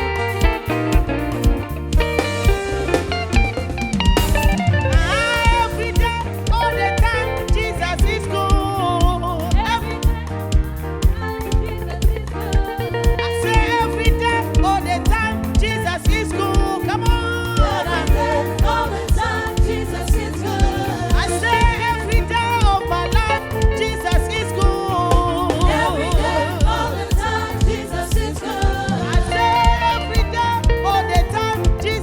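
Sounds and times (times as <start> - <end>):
gospel singing over a beat: 0.0 - 32.0.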